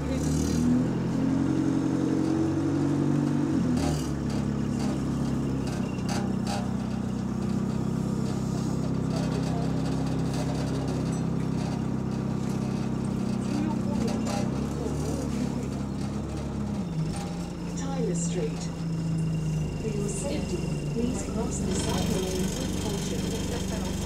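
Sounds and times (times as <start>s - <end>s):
bus diesel engine: 0.0s - 24.0s.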